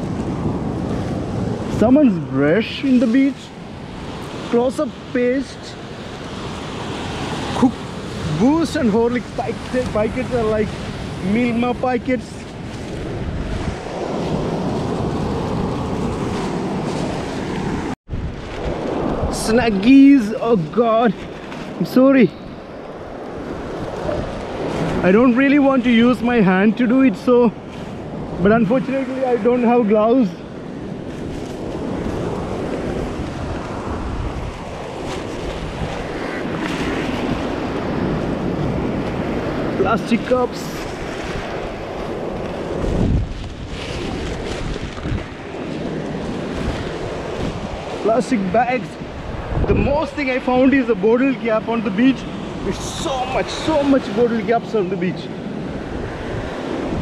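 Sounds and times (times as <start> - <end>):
surf washing onto sand: 0.0 - 57.0
wind buffeting microphone: 0.0 - 57.0.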